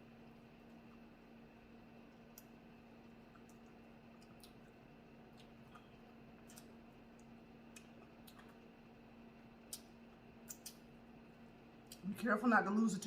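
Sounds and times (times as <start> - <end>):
faint low hum: 0.0 - 13.0
clicks and cracks of eating seafood: 0.4 - 1.3, 1.9 - 12.1.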